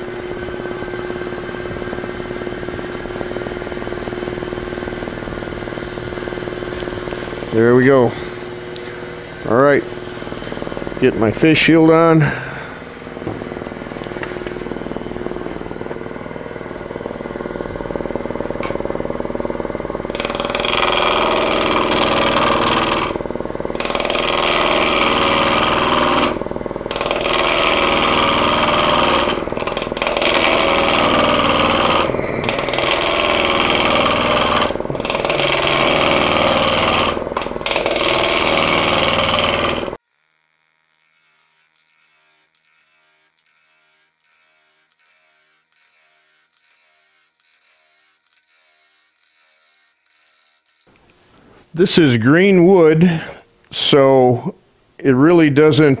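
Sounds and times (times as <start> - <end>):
gouge cutting spinning wood: 0.0 - 51.0
wood lathe running: 0.0 - 51.1.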